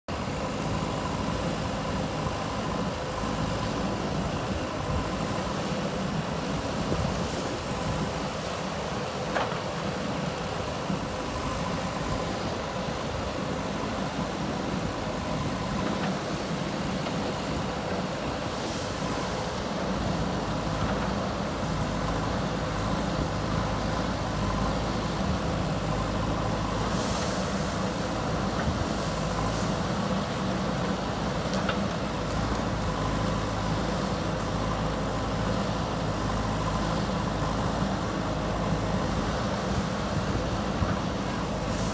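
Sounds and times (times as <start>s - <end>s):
diesel engine running: 0.1s - 41.9s.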